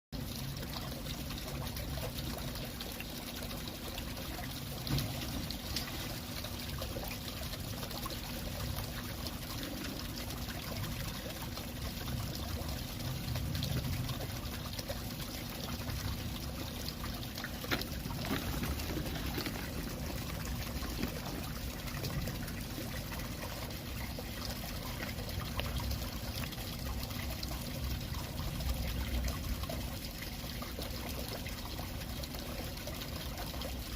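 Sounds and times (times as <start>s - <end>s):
water trickling into pond: 0.2s - 33.9s.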